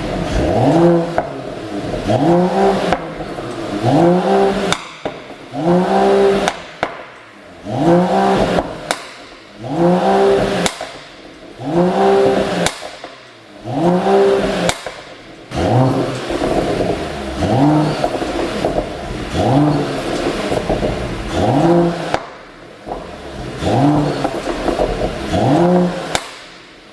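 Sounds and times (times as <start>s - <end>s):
car engine revving: 0.0s - 26.9s
exhaust pops and crackles: 0.0s - 26.9s.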